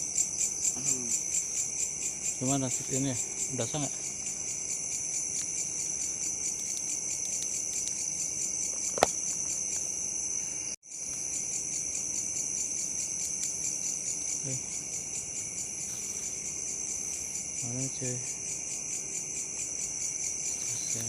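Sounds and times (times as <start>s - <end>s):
crickets and insects chirring: 0.0s - 21.0s.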